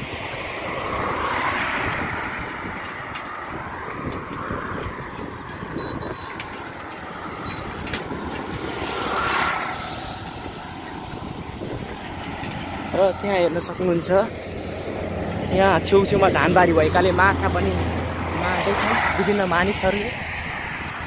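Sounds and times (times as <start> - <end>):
highway traffic: 0.0 - 21.0
vehicles passing close: 0.0 - 21.0.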